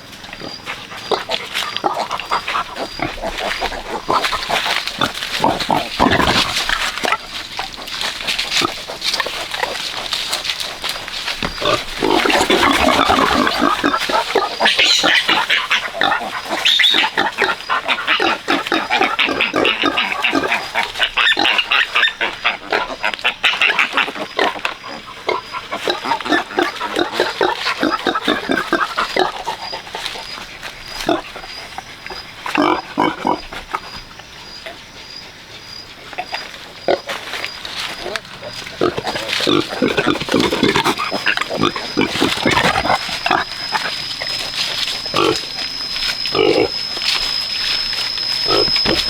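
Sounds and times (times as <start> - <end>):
pigs grunting and squealing: 0.0 - 49.0.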